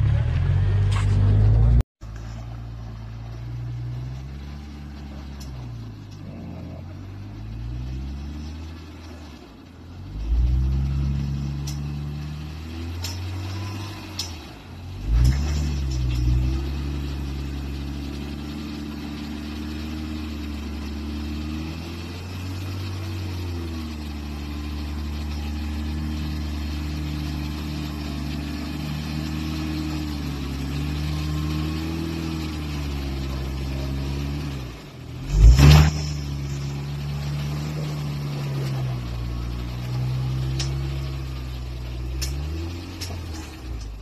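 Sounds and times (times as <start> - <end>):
engine running at low revs: 0.0 - 44.0.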